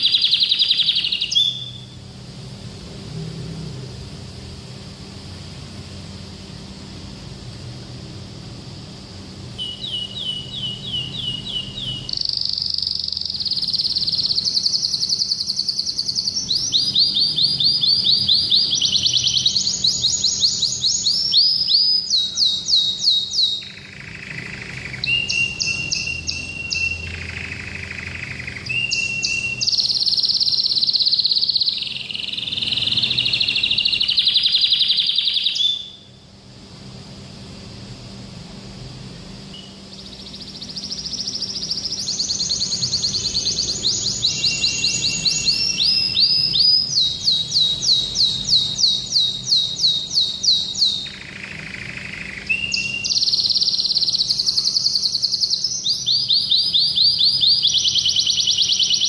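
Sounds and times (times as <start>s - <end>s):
canary singing trills: 0.0s - 2.4s, 9.0s - 36.4s, 39.4s - 59.0s.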